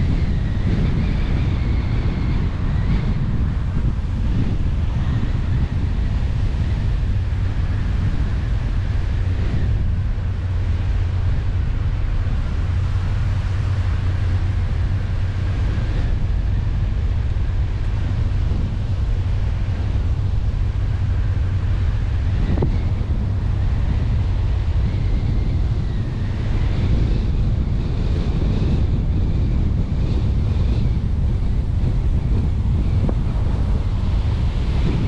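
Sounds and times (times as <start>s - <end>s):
car engine and tyre rumble: 0.0s - 35.0s
wind noise on microphone: 0.0s - 35.0s.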